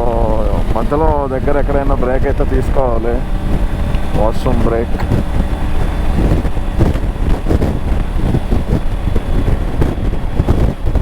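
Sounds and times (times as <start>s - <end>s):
motorcycle engine: 0.0s - 11.0s
road noise: 0.0s - 11.0s
wind buffeting microphone: 0.0s - 11.0s.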